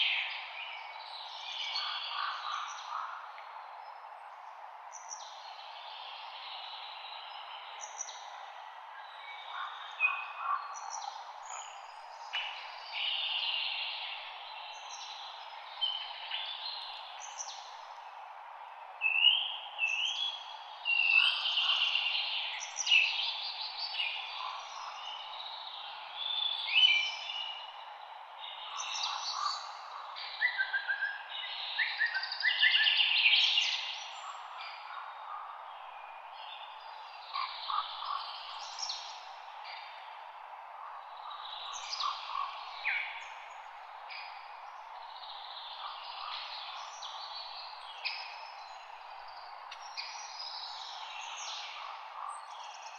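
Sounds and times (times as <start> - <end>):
light wind in leaves: 0.0 - 52.9
songbirds singing: 0.0 - 52.9.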